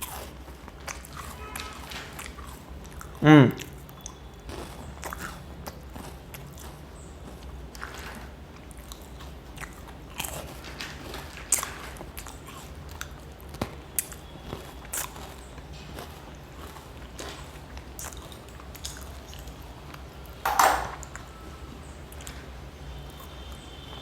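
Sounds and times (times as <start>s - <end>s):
crunching and chewing wafers: 0.0s - 20.4s.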